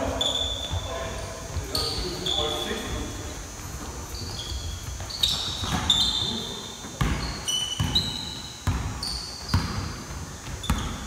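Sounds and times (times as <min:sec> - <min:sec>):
sneakers squeaking on court: 0:00.0 - 0:11.0.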